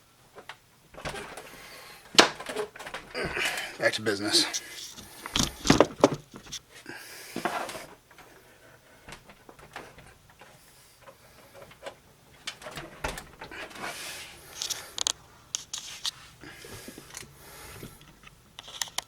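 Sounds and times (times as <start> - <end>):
hands handling hardware: 0.4 - 6.7, 9.0 - 19.0.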